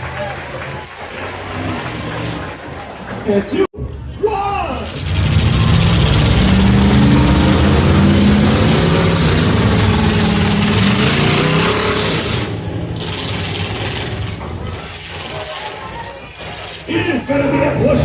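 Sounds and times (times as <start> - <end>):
truck engines revving hard: 0.0 - 18.0.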